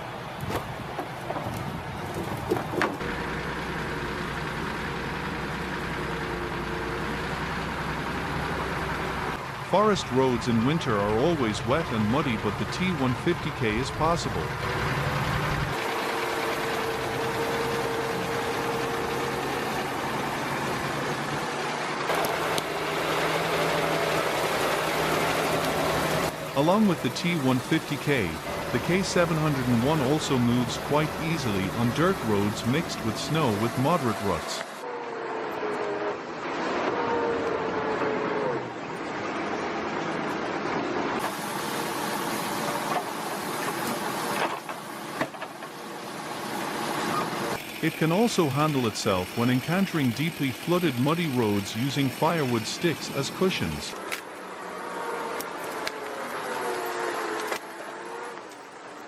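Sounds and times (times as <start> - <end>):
heavy tractor engine running: 0.0 - 34.8, 41.2 - 54.2.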